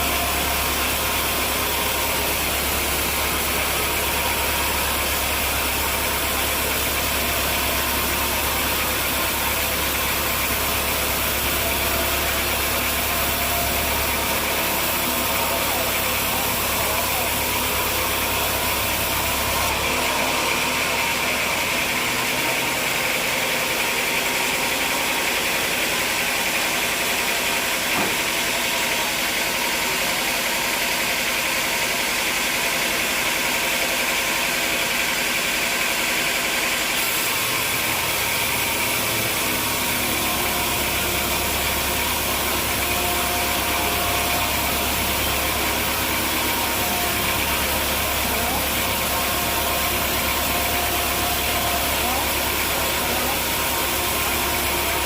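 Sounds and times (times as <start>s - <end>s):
continuous machinery noise: 0.0s - 55.0s
engine running steadily: 0.0s - 55.0s.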